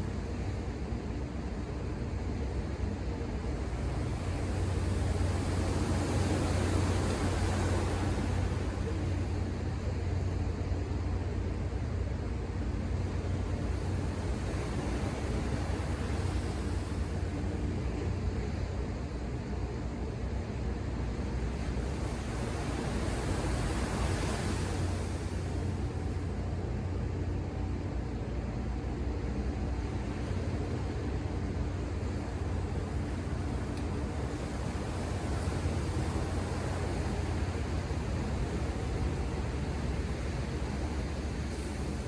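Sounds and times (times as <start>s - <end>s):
ocean waves rumbling: 1.9s - 42.0s.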